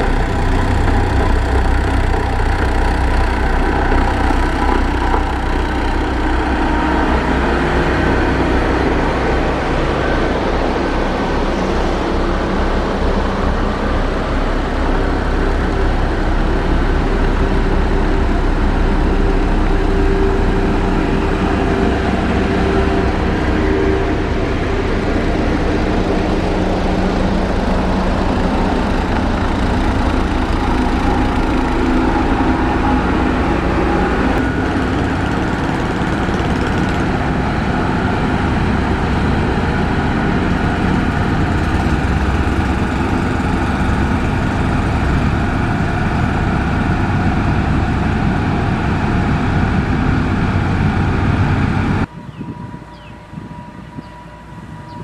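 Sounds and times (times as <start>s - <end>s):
heavy diesel engine running: 0.0s - 52.7s.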